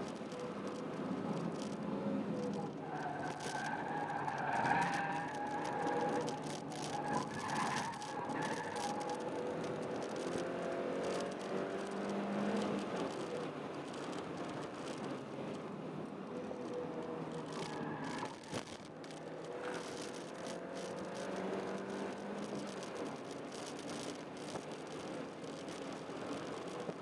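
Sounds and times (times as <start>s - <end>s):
tyre and road noise: 0.0s - 27.0s.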